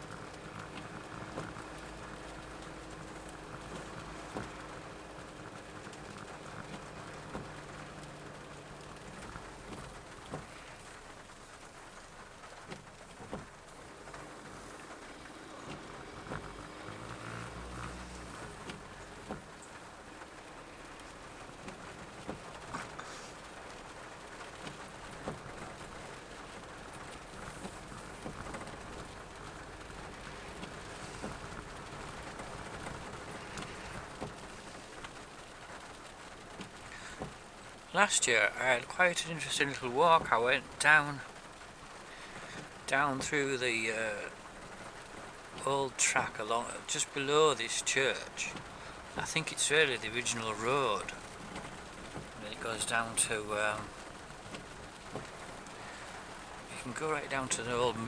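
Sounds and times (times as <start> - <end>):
engine humming quietly: 0.0 - 58.0
low steady rumble: 0.0 - 58.0
rain hissing on vehicle: 0.0 - 58.0.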